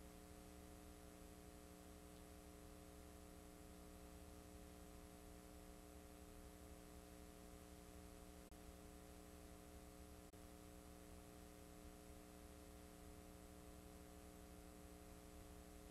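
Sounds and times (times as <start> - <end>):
faint electrical hum with hiss: 0.0 - 15.9.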